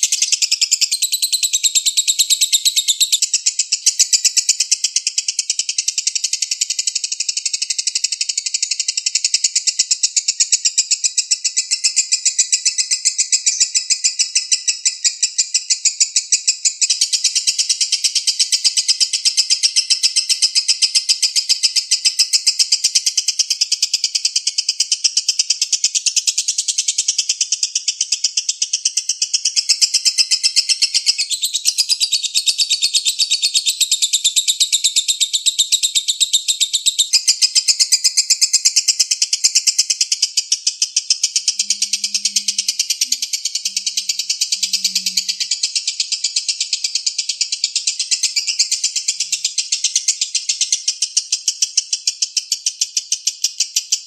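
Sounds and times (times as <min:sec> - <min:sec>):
lovebird chattering: 0:00.0 - 0:54.0.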